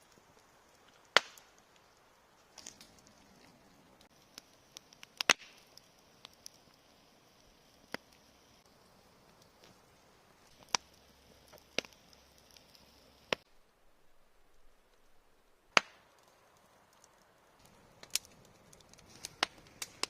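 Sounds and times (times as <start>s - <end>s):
campfire crackling and popping: 0.0s - 20.0s
faint steady hiss: 0.0s - 20.0s.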